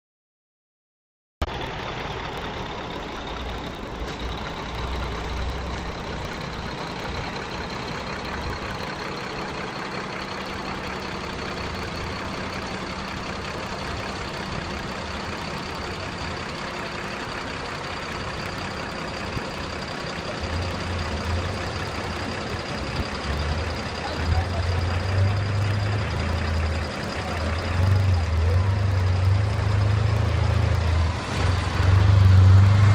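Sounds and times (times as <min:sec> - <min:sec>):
truck engine idling: 0:01.4 - 0:32.9.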